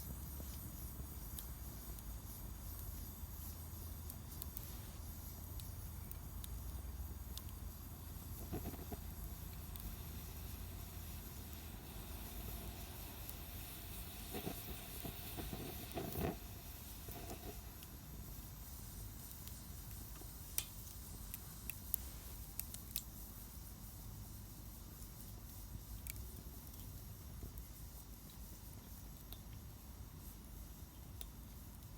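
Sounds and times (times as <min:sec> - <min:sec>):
rustling fire flare-up: 0:00.0 - 0:31.9
wood fire crackling and hissing: 0:00.0 - 0:31.9.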